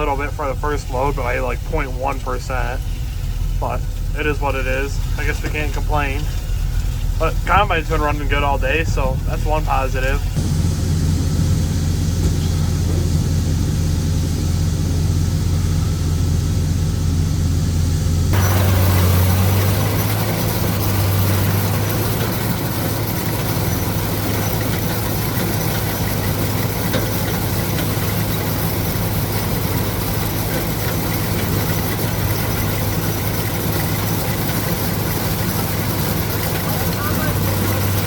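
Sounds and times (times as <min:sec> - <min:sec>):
combine engine humming: 0:00.0 - 0:38.0.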